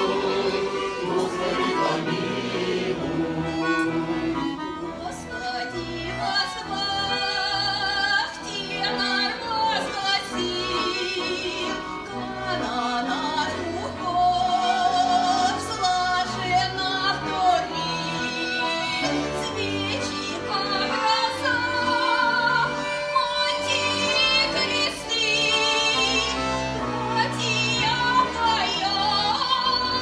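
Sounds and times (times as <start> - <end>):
instrumental accompaniment: 0.0 - 30.0.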